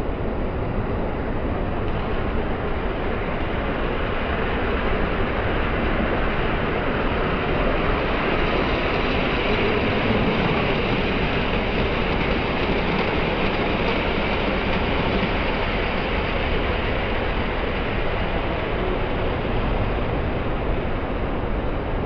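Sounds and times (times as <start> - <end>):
model trains rumbling: 0.0 - 22.0.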